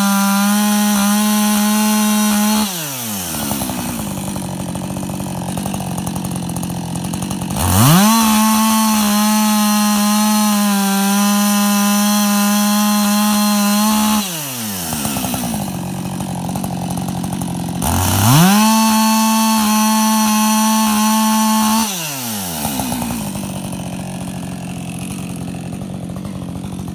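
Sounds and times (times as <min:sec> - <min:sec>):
chainsaw idling and revving: 0:00.0 - 0:26.9.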